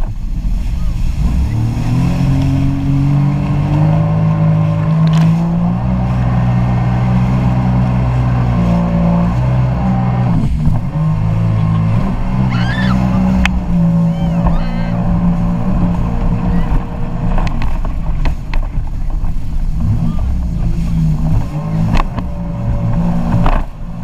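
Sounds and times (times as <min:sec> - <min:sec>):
jet ski engine: 0:00.0 - 0:24.0.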